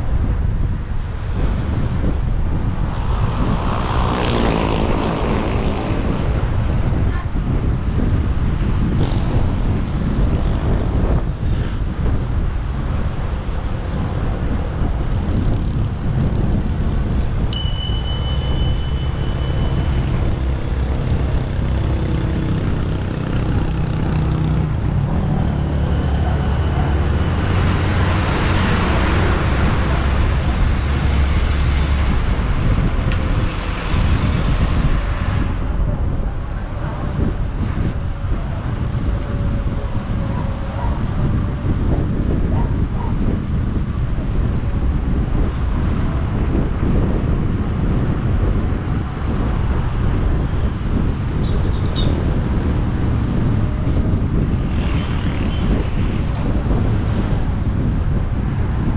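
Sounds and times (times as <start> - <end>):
road traffic: 0.0 - 58.9
wind buffeting microphone: 0.0 - 58.9.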